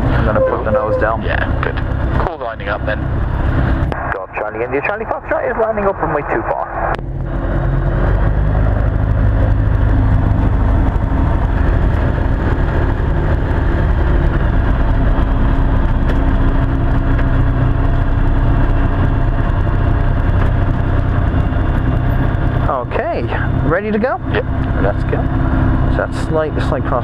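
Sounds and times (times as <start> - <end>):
microlight engine and propeller: 0.0 - 27.0.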